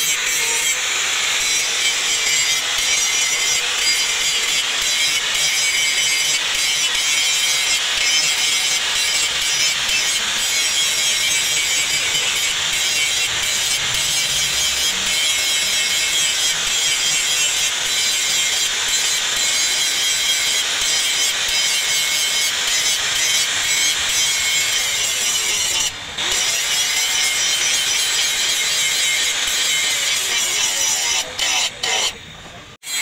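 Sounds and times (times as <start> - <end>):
angle grinder grinding metal: 0.0 - 33.0.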